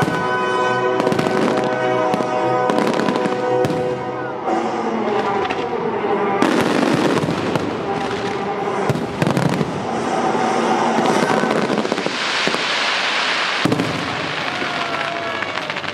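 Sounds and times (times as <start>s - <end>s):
fireworks bursting: 0.0s - 15.9s
fireworks crackling: 0.0s - 15.9s
sharp fireworks bangs: 0.0s - 15.9s.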